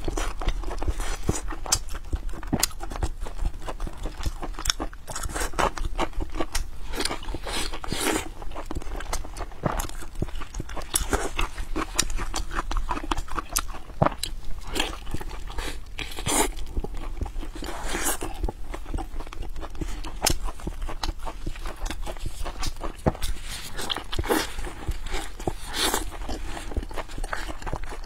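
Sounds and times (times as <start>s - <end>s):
wet chewing and lip smacking: 0.0s - 28.0s.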